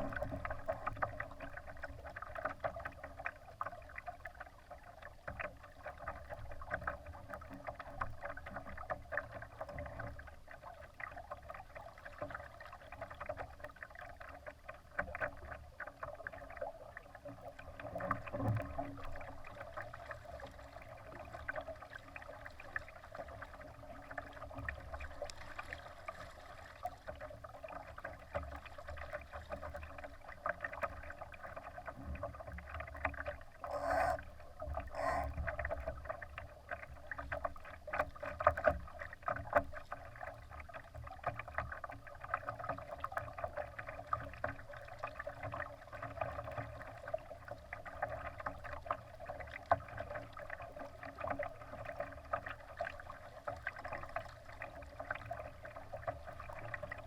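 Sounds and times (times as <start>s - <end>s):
water splashing against hull: 0.0s - 57.0s.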